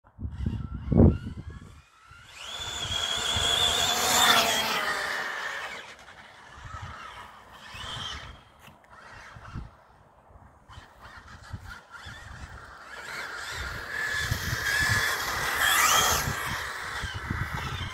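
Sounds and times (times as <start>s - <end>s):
rc car motor whining: 0.2s - 10.0s, 10.6s - 17.9s.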